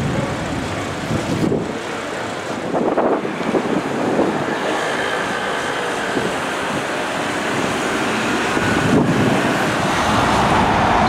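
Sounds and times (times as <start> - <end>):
city street traffic: 0.0 - 11.0
wind buffeting microphone: 0.0 - 11.0.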